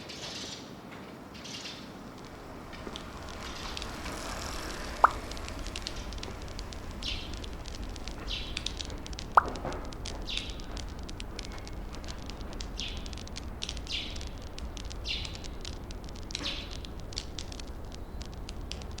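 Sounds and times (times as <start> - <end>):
campfire crackling and popping: 1.2 - 19.0
low steady rumble: 1.8 - 19.0.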